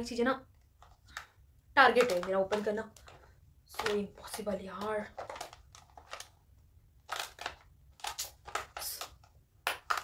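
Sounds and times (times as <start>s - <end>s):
plastic packaging crackling: 0.8s - 6.4s, 7.0s - 10.0s.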